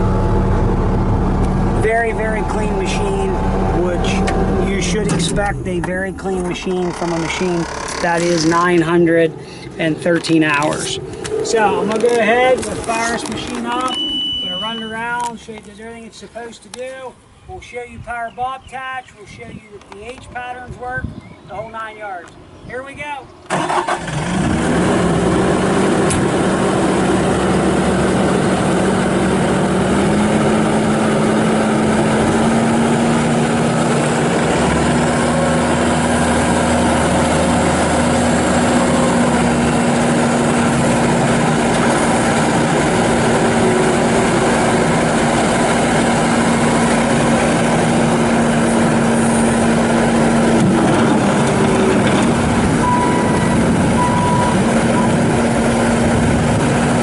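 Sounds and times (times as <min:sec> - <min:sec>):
diesel engine running: 0:00.0 - 0:15.7, 0:23.5 - 0:57.0.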